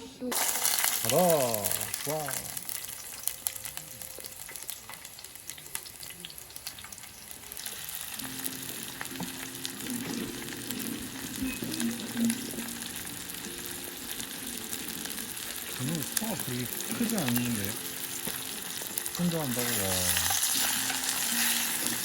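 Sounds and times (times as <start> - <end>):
food sizzling in a pan: 0.2 - 22.0.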